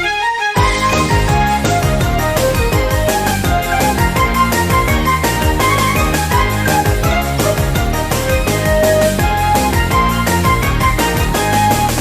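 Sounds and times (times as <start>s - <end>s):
fast video game music: 0.0s - 12.0s.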